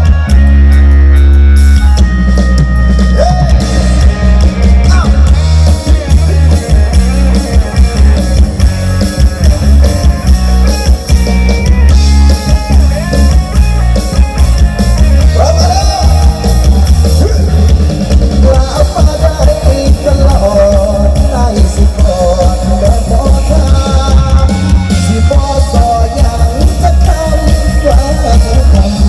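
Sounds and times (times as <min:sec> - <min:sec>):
band music with drums and bass: 0:00.0 - 0:29.0
driving drum beat: 0:00.0 - 0:29.0.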